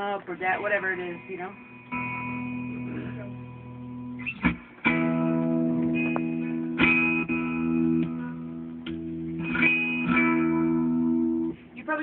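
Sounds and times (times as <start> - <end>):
guitar chords strummed: 0.0 - 12.0.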